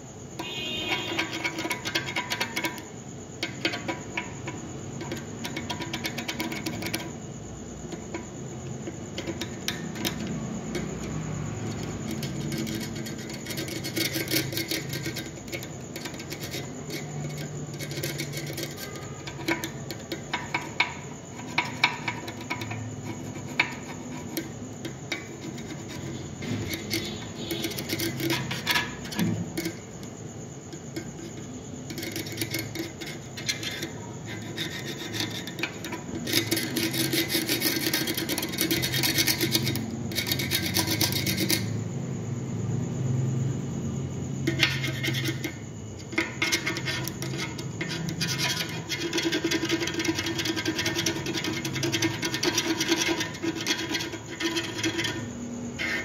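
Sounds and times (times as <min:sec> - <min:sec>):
hand tool scraping metal: 0:00.0 - 0:41.8, 0:44.4 - 0:56.0.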